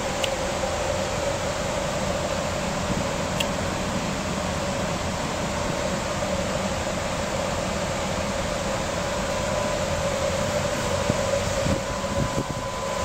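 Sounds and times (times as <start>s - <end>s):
faint high whine: 0.0s - 13.0s
fan-like mechanical hum: 0.0s - 13.0s.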